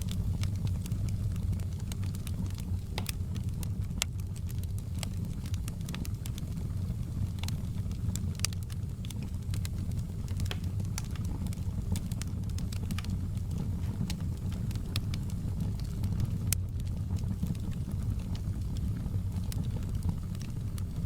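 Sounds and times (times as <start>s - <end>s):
fire crackling and popping: 0.0s - 21.0s
low rumble of flame: 0.0s - 21.0s.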